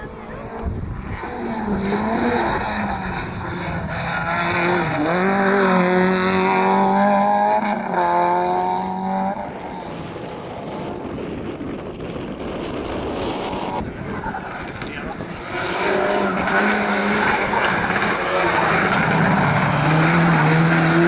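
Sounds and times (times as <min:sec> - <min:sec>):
rally car engine passing: 0:00.0 - 0:11.3, 0:13.0 - 0:21.0.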